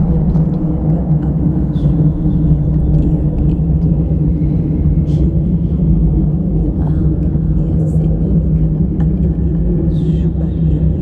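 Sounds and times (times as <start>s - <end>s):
low rumbling drone: 0.0s - 11.0s.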